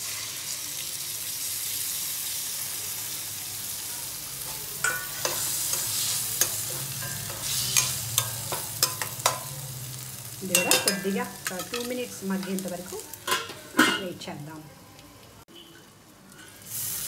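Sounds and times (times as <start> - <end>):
vegetables sizzling in hot oil: 0.0 - 14.6, 15.9 - 17.0.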